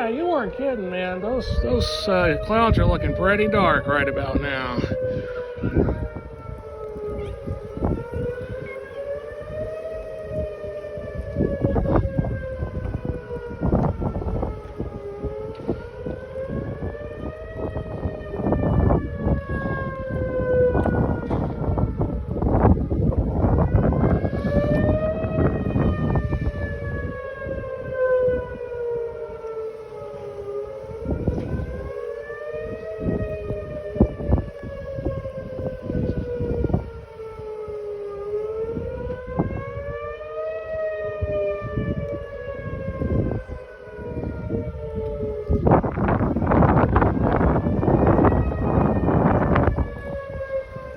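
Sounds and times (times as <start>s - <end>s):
storm warning siren wailing: 0.0s - 50.9s
wind buffeting microphone: 0.0s - 50.9s.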